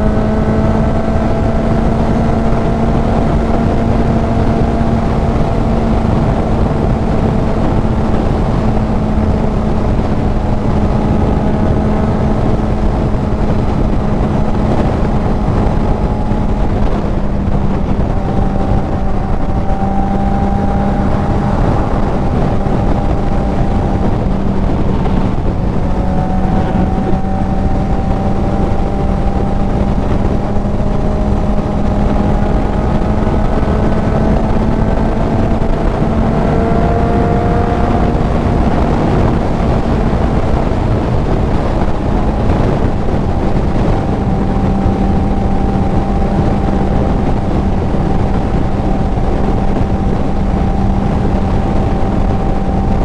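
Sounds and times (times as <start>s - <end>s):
motorcycle engine droning: 0.0s - 53.0s
wind buffeting microphone: 0.0s - 53.0s.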